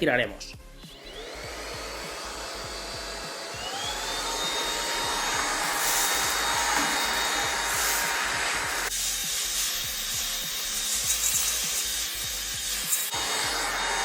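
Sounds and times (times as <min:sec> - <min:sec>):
cordless vacuum motor whining: 0:00.8 - 0:14.0.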